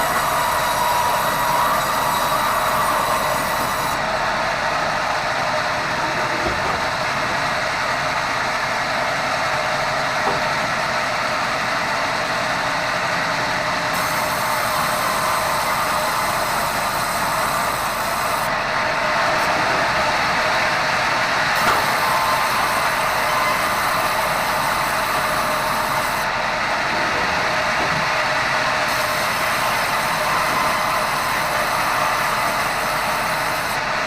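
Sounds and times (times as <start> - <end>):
band saw running: 0.0 - 34.0.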